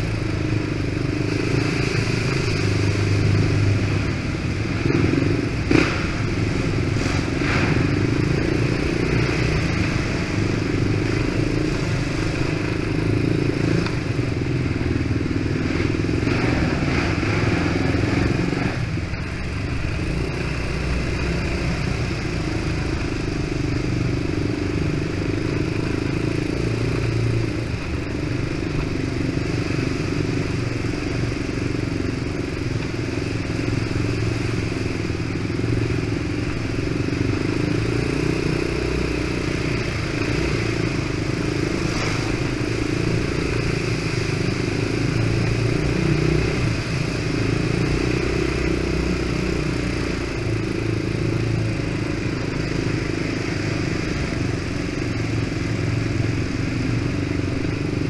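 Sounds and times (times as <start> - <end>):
quad engine running: 0.0 - 58.0.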